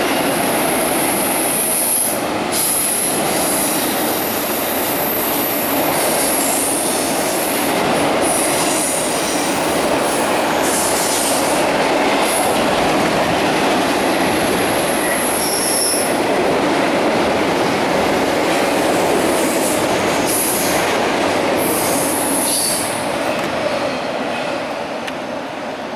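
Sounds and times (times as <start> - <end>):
train wheels rumbling on rails: 0.0 - 25.6.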